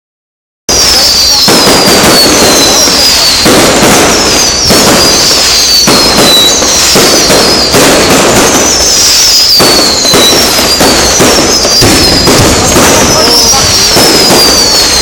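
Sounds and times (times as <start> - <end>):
fireworks crackling and popping: 0.7 - 15.0
fireworks whistles falling in pitch: 0.7 - 15.0.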